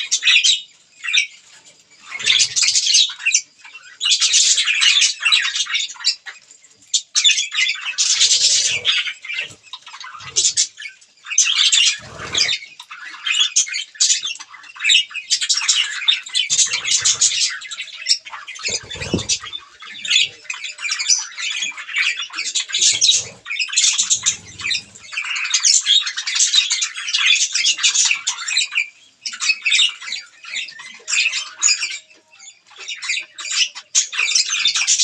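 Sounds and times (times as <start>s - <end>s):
budgerigars chattering: 2.0s - 35.0s.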